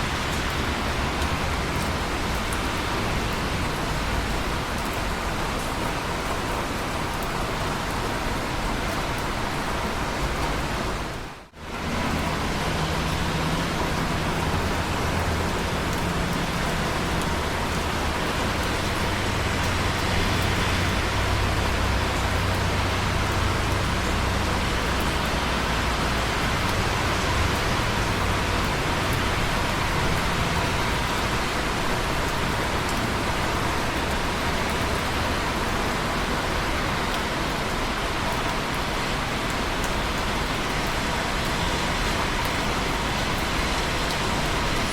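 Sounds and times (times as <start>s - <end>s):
raindrops ticking: 0.0s - 10.8s, 11.4s - 44.9s
rain hissing: 0.0s - 44.9s.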